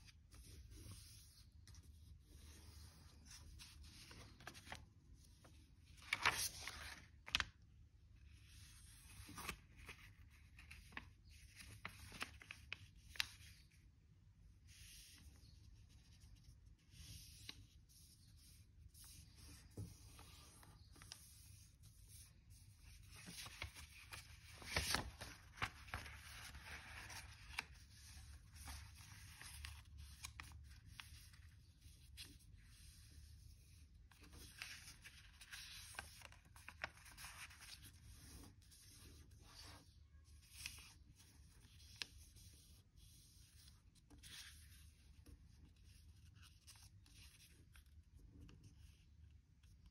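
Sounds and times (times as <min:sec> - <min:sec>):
paper crinkling while folded: 0:00.1 - 0:07.6, 0:08.4 - 0:13.9, 0:16.2 - 0:49.9.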